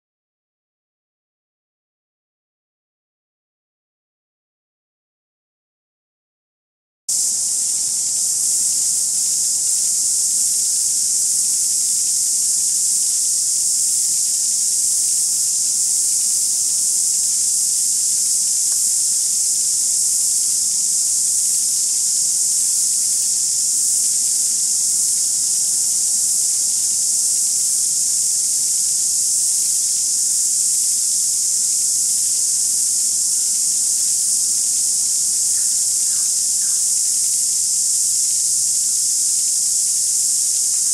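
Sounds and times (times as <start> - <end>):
insect chorus buzzing: 7.1 - 40.9.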